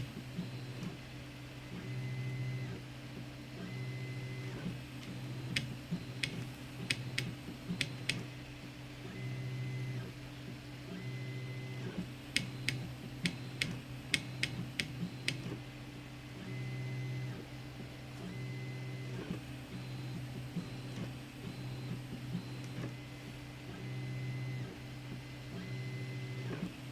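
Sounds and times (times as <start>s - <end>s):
printer stepper motors humming: 0.0s - 26.9s.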